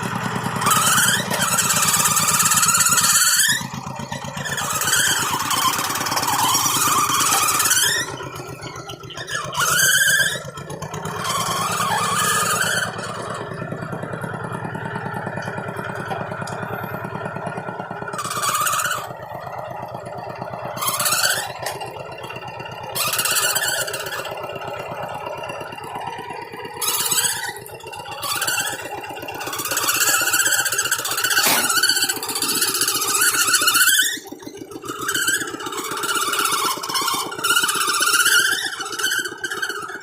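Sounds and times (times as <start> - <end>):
high-pitched squealing: 0.0 - 40.0
tractor engine running: 0.0 - 40.0.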